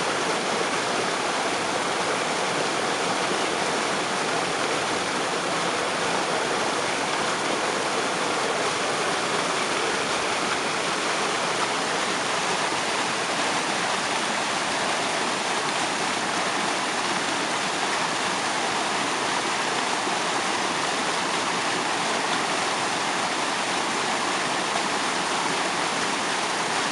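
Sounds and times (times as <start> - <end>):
waterfall splashing: 0.0 - 26.9.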